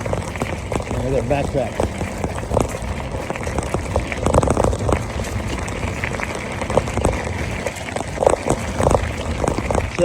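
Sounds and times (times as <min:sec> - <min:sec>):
bike tyre noise on trail: 0:00.0 - 0:10.0
wind rumble on microphone: 0:00.0 - 0:10.0.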